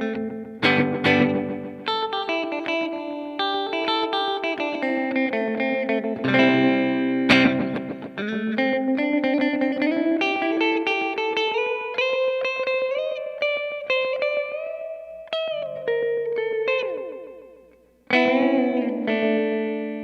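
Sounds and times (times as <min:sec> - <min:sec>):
electric guitar with echoing delay: 0:00.0 - 0:20.0.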